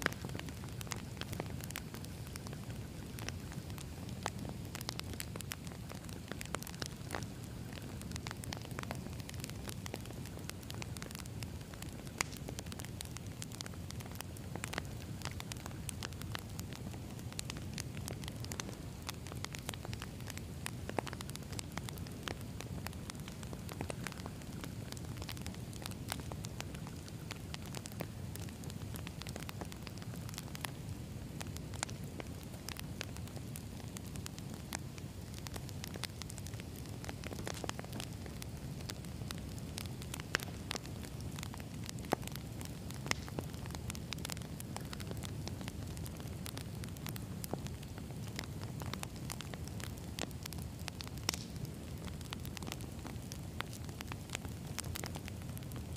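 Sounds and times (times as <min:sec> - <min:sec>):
campfire crackling and popping: 0:00.0 - 0:55.9
low rush of flame: 0:00.0 - 0:55.9.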